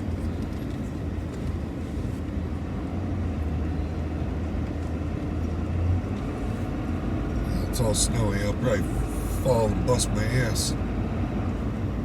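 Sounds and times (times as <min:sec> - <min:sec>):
road and tyre noise: 0:00.0 - 0:12.0
truck engine drone: 0:00.0 - 0:12.0.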